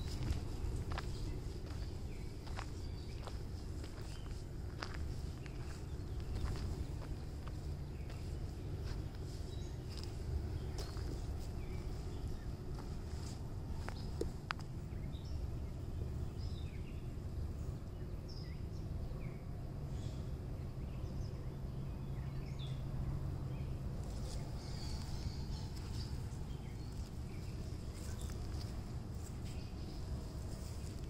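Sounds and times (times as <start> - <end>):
low background rumble: 0.0 - 31.0
small birds chirping: 0.0 - 31.0.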